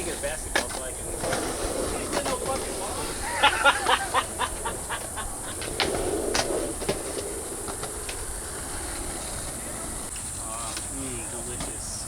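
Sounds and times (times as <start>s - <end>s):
cicadas droning: 0.0s - 12.0s
skateboard wheels rolling on concrete: 0.0s - 12.0s.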